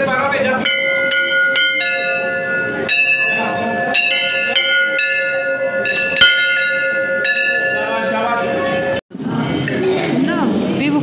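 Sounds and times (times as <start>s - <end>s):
brass temple bells ringing: 0.0s - 9.0s.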